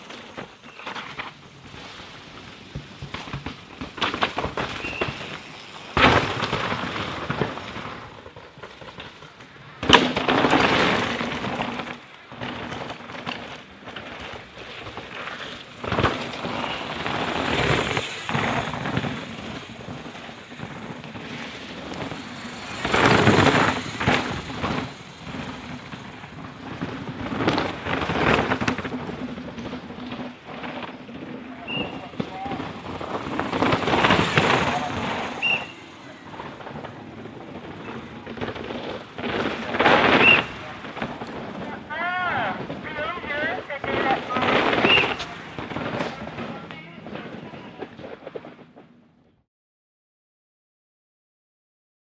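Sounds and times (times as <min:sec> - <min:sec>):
bike tyres tearing over dirt: 0:00.0 - 0:49.0
wheels knocking on rocks: 0:00.0 - 0:49.0.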